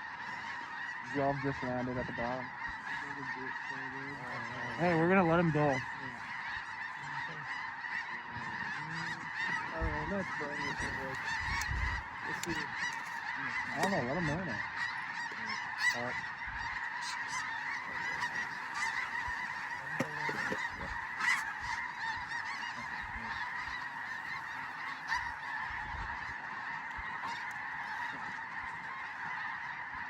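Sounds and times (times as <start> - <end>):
flock of geese honking: 0.0 - 30.0.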